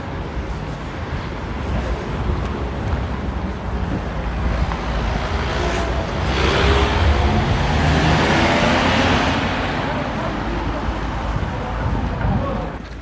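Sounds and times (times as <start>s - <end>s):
vehicle engine and road noise: 0.0s - 13.0s
wind rumbling on microphone: 0.0s - 13.0s.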